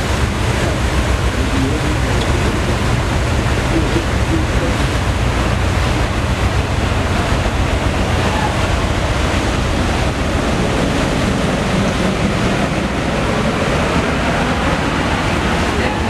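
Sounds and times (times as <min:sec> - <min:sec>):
sea water washing: 0:00.0 - 0:16.0
wind buffeting microphone: 0:00.0 - 0:16.0.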